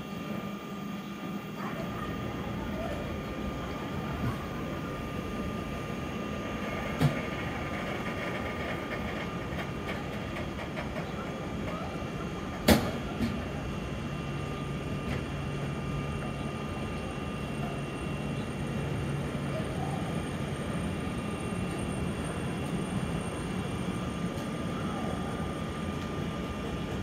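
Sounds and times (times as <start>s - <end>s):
thin steady whine: 0.0s - 27.0s
train coaches rolling on rails: 1.2s - 27.0s.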